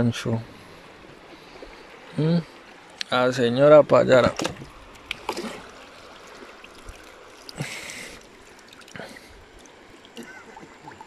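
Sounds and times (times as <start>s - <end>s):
river water running: 0.0s - 11.0s.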